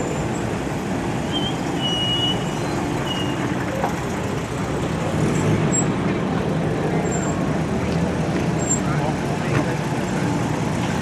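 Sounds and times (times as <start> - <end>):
car engines rumbling past: 0.0 - 11.0.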